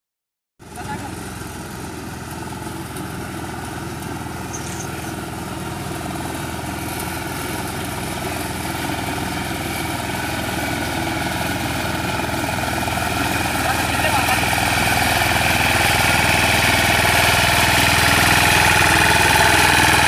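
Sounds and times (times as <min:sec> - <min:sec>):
reaper machine engine running: 0:00.6 - 0:20.0.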